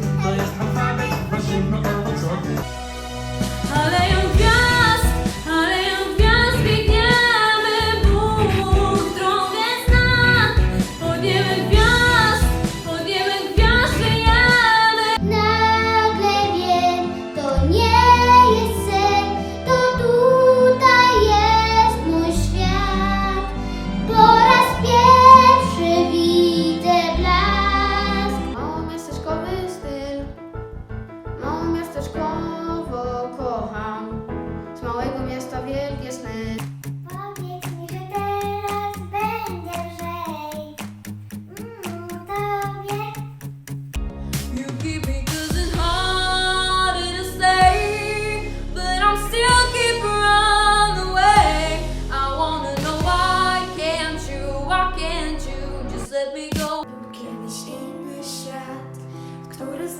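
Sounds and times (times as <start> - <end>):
instrumental backing track: 0.0 - 29.1, 36.3 - 59.8
young woman singing pop song: 3.6 - 30.4, 31.4 - 40.9, 44.3 - 59.9.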